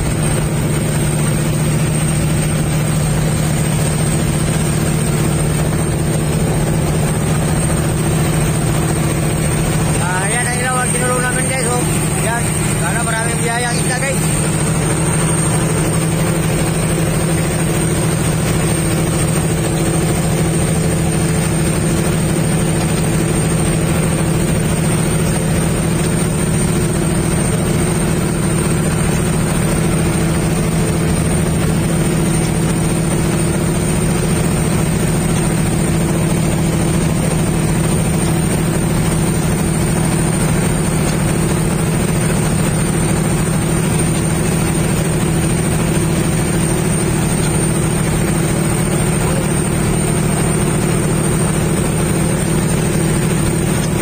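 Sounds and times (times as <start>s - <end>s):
boat engine drone: 0.0s - 54.0s
rush of boat wake: 0.0s - 54.0s.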